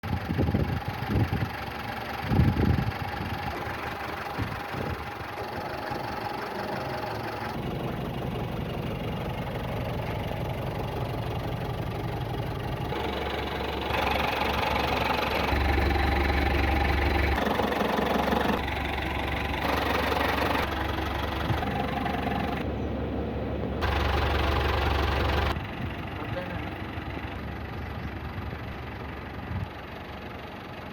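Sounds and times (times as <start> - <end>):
truck diesel engine running: 0.0 - 30.9.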